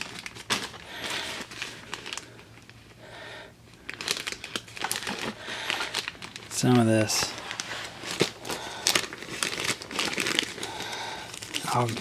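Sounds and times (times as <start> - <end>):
plastic bags crinkling: 0.0 - 3.0, 3.7 - 12.0.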